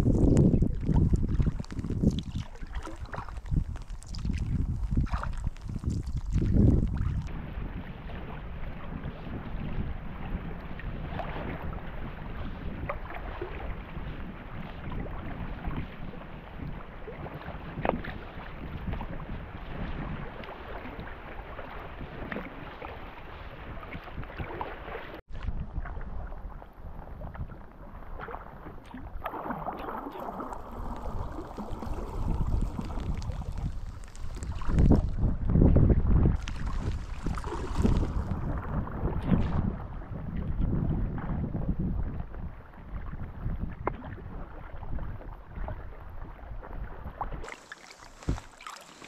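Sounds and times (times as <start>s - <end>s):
wind buffeting microphone: 0.0s - 24.6s, 30.3s - 47.5s
paddle splashing water: 0.0s - 49.0s.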